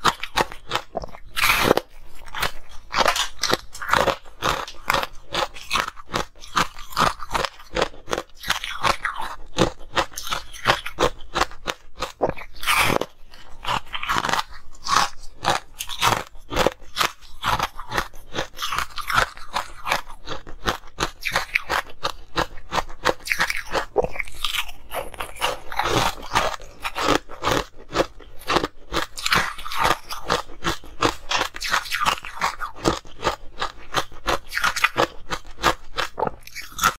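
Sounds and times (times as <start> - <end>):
crunching ice with teeth: 0.0 - 36.9.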